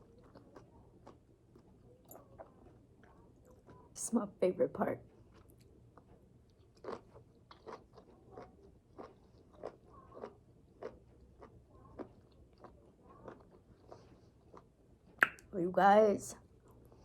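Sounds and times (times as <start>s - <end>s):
chewing crunchy food: 0.0s - 4.0s, 5.0s - 15.3s.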